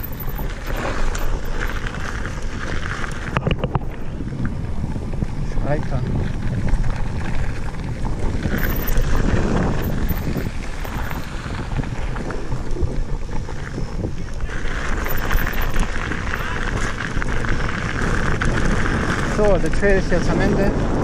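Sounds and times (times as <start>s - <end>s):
bike clattering: 0.0s - 20.2s
tyres rolling over gravel: 0.0s - 21.0s
wind on microphone: 0.0s - 21.0s.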